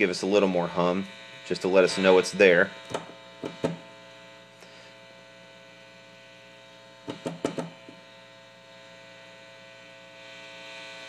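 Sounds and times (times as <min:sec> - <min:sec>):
amplifier mains hum: 0:00.0 - 0:11.0.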